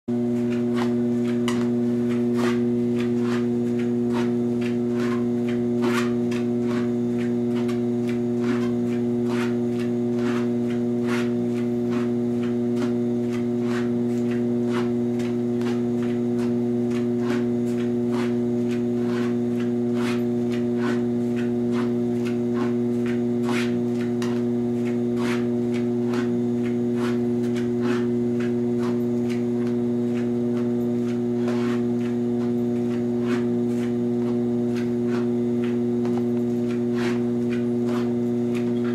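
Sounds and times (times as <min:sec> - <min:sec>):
treadmill motor hum: 0:00.1 - 0:38.9.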